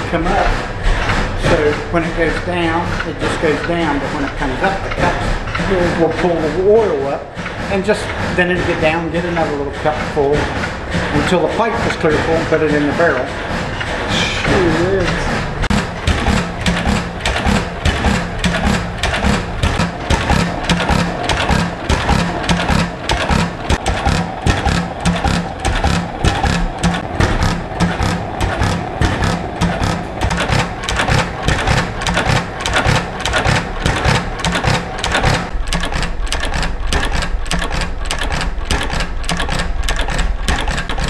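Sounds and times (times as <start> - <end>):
air compressors knocking: 0.0 - 41.0.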